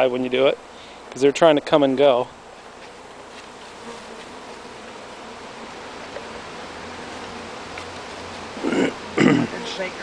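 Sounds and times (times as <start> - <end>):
honeybees droning: 0.0 - 10.0.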